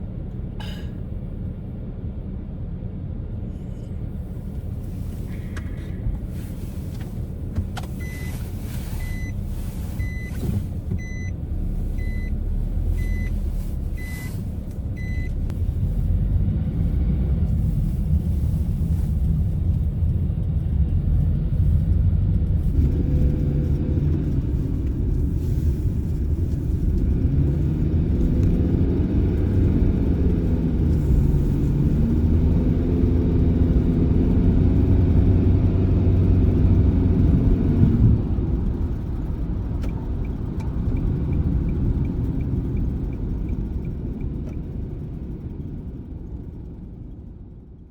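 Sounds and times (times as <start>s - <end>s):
minivan engine and road rumble: 0.0s - 47.9s.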